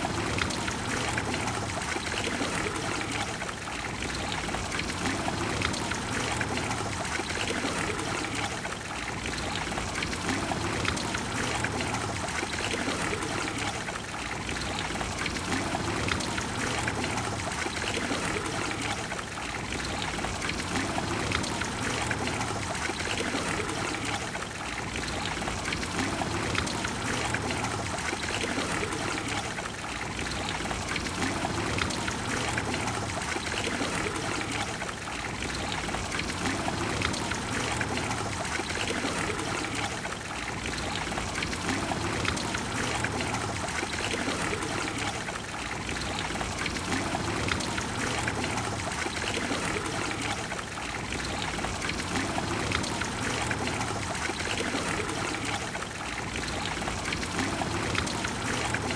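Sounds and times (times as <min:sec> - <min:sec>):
fountain water splashing: 0:00.0 - 0:58.9.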